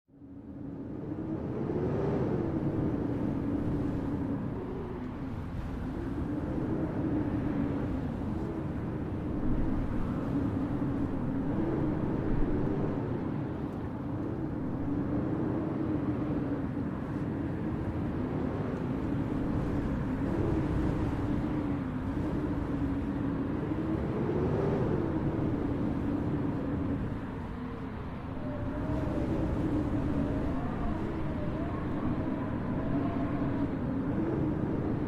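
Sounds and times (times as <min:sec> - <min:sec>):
blizzard wind howling: 0:00.1 - 0:35.0.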